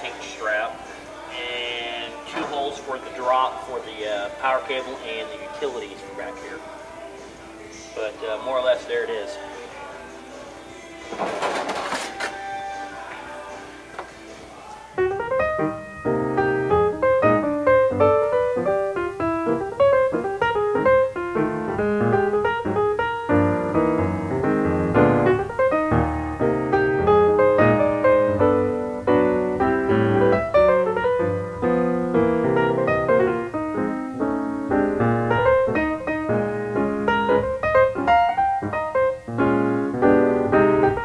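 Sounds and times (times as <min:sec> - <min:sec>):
piano music: 0:00.0 - 0:41.0.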